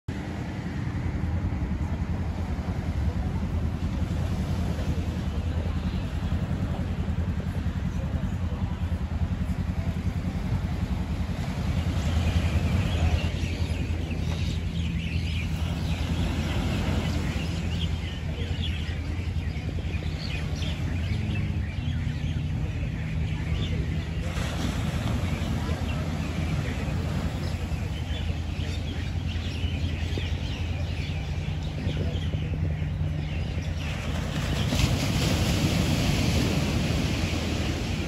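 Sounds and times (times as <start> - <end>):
birds chirping: 0.1 - 38.0
low engine hum: 0.1 - 38.0.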